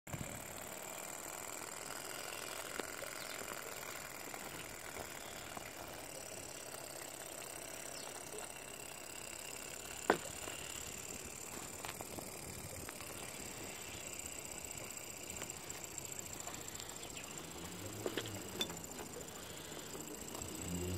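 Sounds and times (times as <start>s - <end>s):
small engine whine and ticking: 0.1s - 20.9s.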